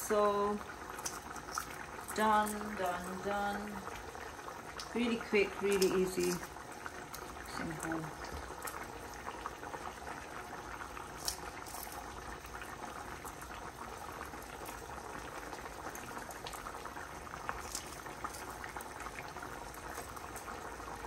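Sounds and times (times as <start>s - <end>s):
curry bubbling in a pot: 0.0s - 21.0s.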